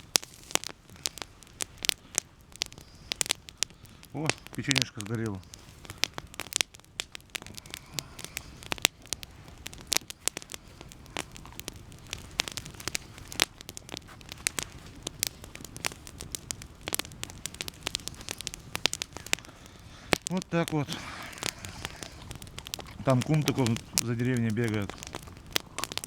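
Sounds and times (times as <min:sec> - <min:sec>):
campfire crackling and popping: 0:00.0 - 0:26.0
low steady fire hiss: 0:00.0 - 0:26.0.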